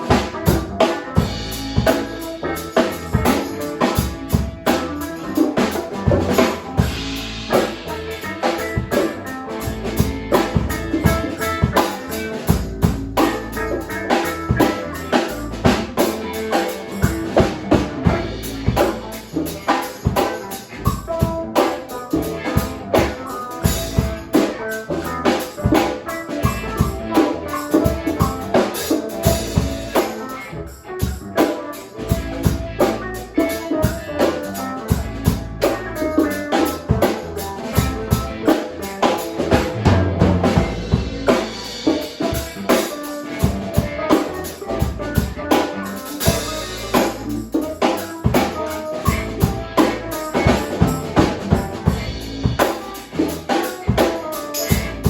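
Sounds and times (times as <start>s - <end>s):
music with drums and guitar: 0.0s - 55.0s.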